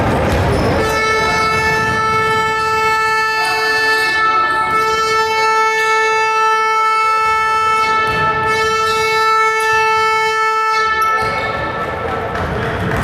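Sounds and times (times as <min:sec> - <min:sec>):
faint crowd and court noise: 0:00.0 - 0:13.0
long buzz of game horn: 0:00.8 - 0:11.8.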